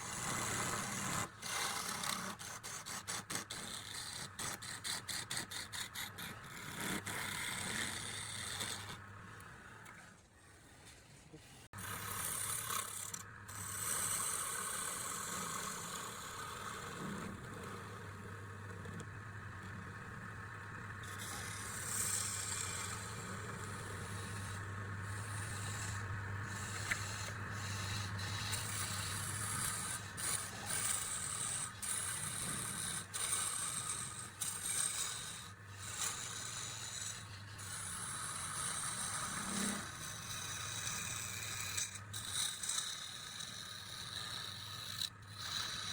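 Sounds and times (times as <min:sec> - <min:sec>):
tool scraping wood: 0:00.0 - 0:10.0, 0:11.8 - 0:19.1, 0:21.0 - 0:45.9
steady low hum: 0:05.7 - 0:45.9.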